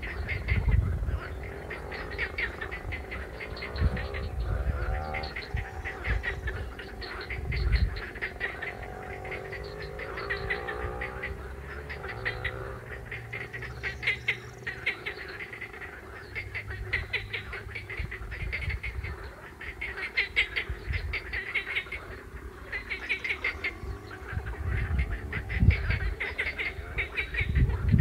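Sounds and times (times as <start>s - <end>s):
frogs calling in pulsed trains: 0.0s - 28.0s.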